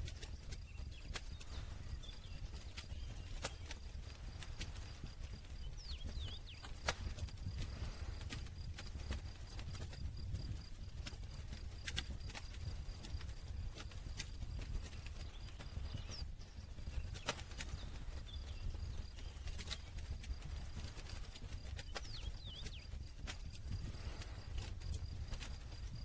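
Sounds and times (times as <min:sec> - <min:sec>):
campfire crackling: 0:00.0 - 0:26.0
fire pops and snaps: 0:00.0 - 0:26.0.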